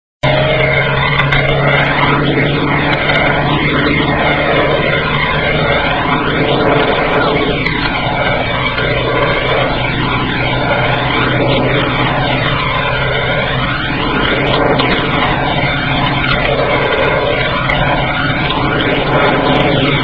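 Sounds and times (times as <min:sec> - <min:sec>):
car engine hum: 0:00.2 - 0:20.0
road and wind noise: 0:00.2 - 0:20.0.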